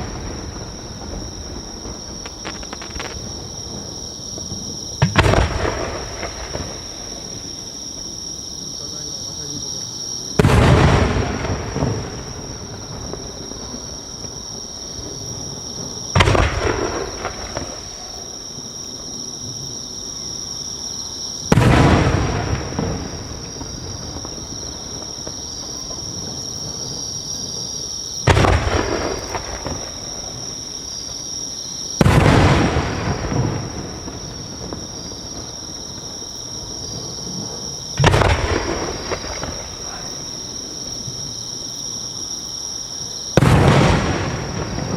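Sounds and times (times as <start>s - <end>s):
firework shells booming: 0.0s - 8.6s, 9.2s - 18.7s, 21.3s - 41.4s, 43.2s - 44.9s.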